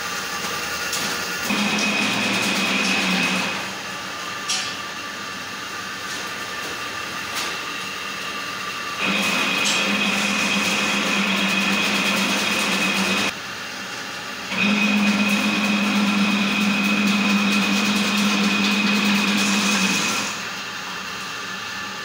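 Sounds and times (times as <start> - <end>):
louder machine running: 0.0 - 22.0
machinery hum with high whine: 0.0 - 22.0.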